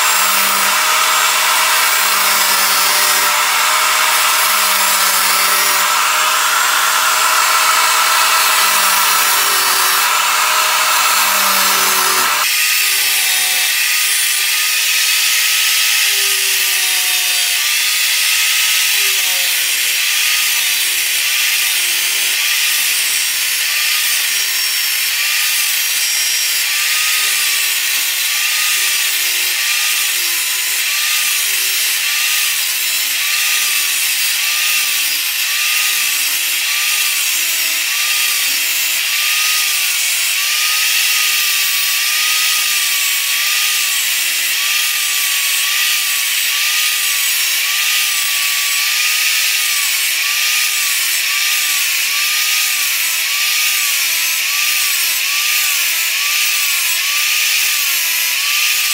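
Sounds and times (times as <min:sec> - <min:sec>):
angle grinder grinding steel: 0:00.0 - 0:58.9.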